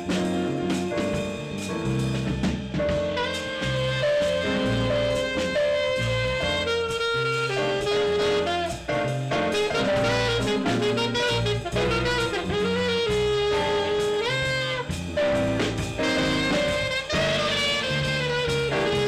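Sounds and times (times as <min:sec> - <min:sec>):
saxophone melody: 0:00.0 - 0:02.2, 0:02.9 - 0:19.0
drum kit: 0:00.0 - 0:19.0
electric keyboard: 0:00.0 - 0:19.0
guitar: 0:00.0 - 0:19.0.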